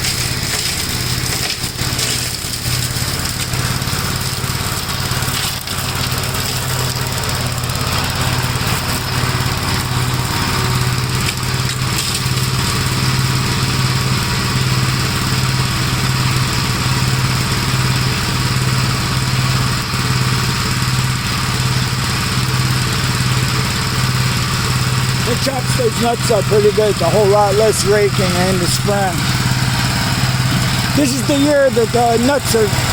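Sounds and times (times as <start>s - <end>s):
rotary mower mulching nuts: 0.0s - 32.9s
tractor engine throbbing: 0.0s - 32.9s.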